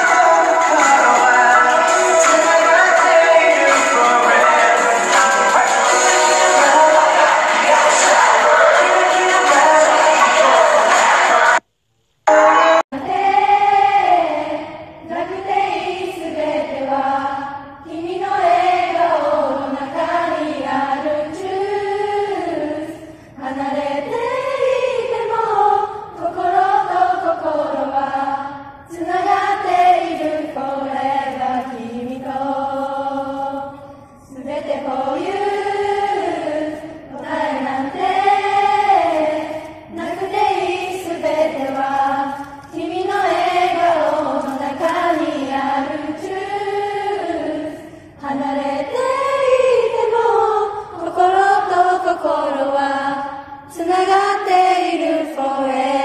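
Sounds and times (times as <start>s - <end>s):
unaccompanied group singing: 0.0s - 11.6s, 12.3s - 56.0s.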